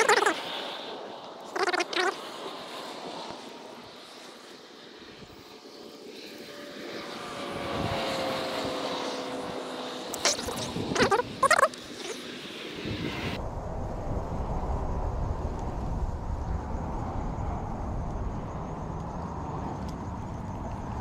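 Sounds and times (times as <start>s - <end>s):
propeller airplane engine drone: 0.0s - 21.0s.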